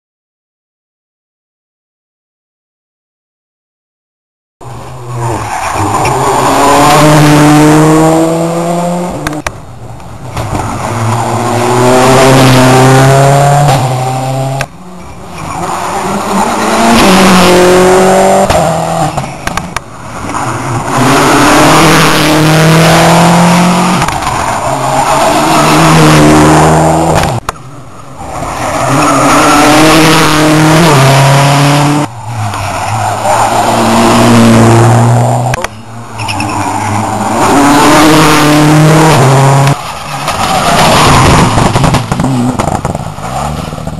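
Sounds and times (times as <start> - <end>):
rally cars passing at speed: 4.6 - 43.9.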